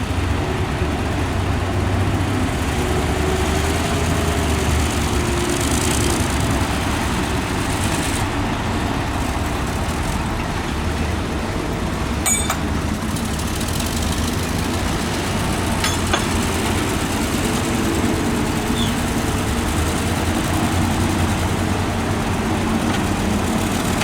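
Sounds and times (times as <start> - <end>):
heavy diesel engine rumble: 0.0 - 24.0.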